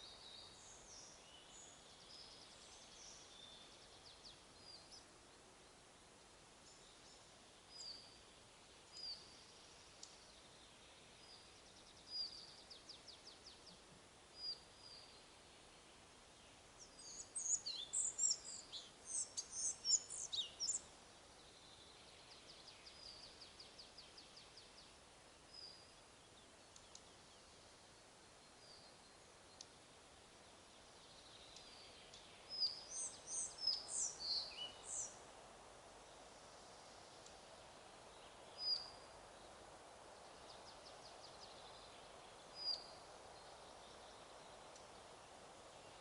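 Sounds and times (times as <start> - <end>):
songbirds chirping: 0.0 - 46.0.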